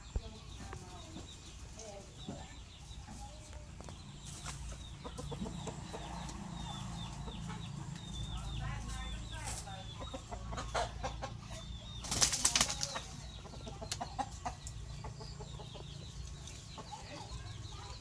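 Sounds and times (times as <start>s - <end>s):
birds chirping: 0.0s - 18.0s
birds clucking: 0.0s - 18.0s.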